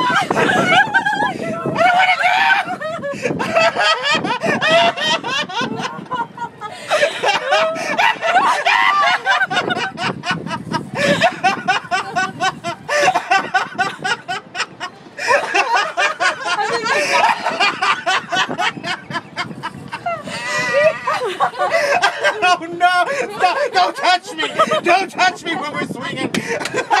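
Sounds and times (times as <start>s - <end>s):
man laughing hard: 0.0s - 27.0s.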